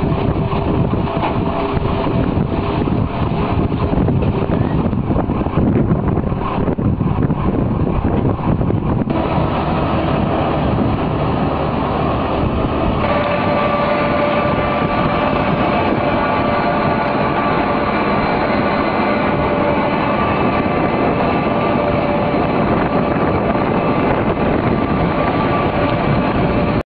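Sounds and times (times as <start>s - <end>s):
feed mixer engine din: 0.0s - 26.8s
steady tone: 0.0s - 26.8s.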